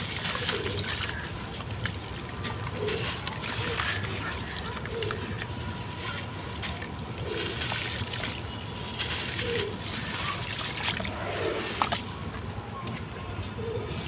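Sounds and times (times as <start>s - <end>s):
water splashing: 0.0s - 13.2s.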